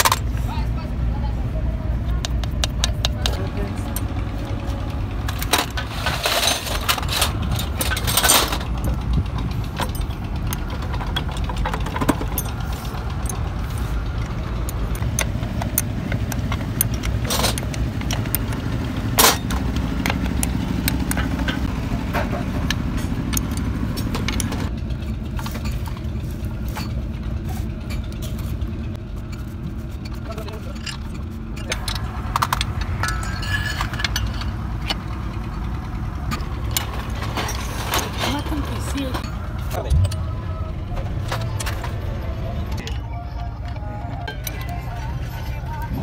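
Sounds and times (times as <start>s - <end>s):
steady low rumble: 0.0s - 46.0s
spanner clinking on metal casing: 2.1s - 46.0s.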